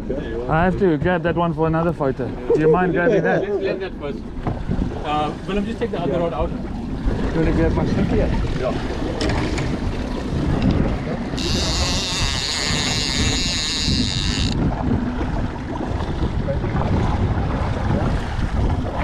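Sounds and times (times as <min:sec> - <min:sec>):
wind buffeting microphone: 0:02.3 - 0:19.0.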